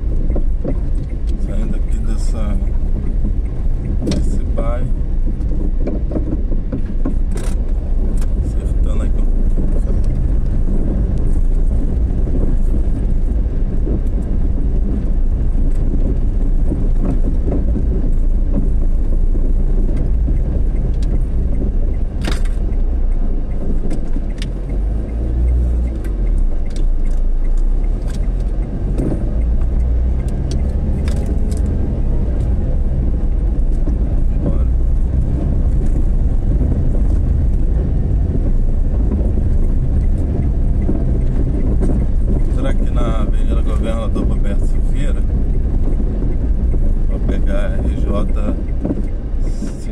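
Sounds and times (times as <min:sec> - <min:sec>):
vehicle driving on road: 0:00.0 - 0:49.9.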